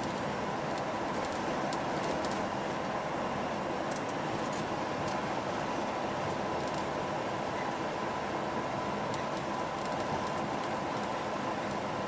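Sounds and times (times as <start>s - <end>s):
road and engine noise in truck cab: 0.0s - 12.0s.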